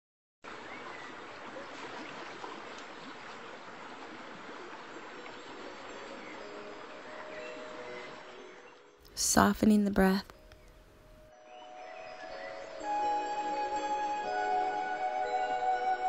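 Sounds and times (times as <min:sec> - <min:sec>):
running water: 0:00.4 - 0:16.0.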